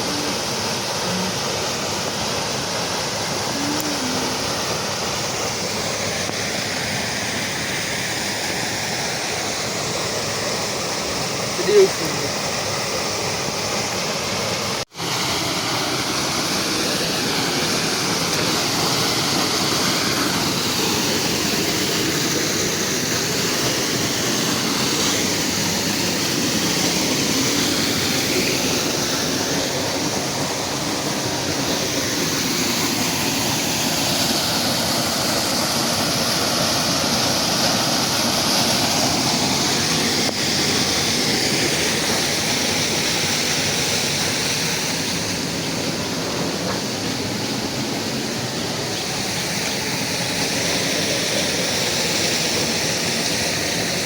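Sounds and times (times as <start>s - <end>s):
rush of flowing water: 0.0s - 54.0s.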